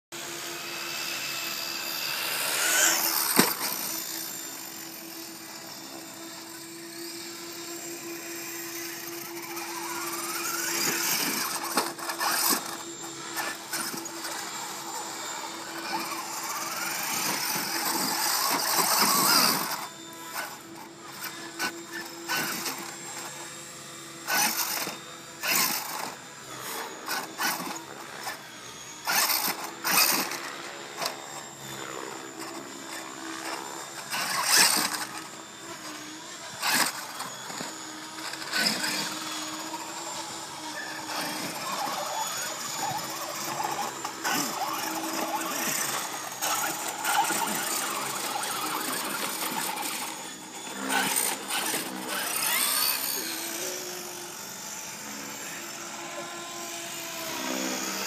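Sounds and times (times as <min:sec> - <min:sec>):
electric motor whining: 0:00.2 - 0:58.0.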